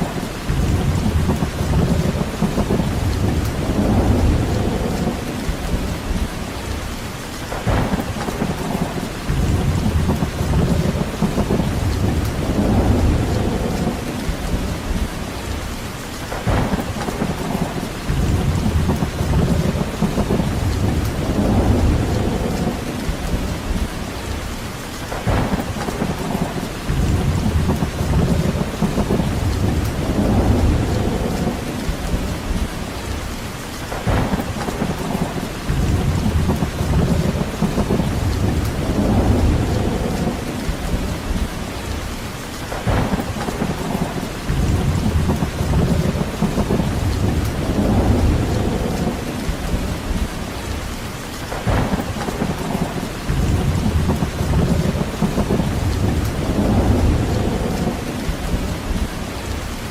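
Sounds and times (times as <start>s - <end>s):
steady rain: 0.0s - 59.9s
deep rumbling: 0.4s - 6.8s, 7.6s - 15.6s, 16.4s - 24.4s, 25.2s - 33.2s, 34.0s - 42.0s, 42.8s - 50.8s, 51.6s - 59.6s.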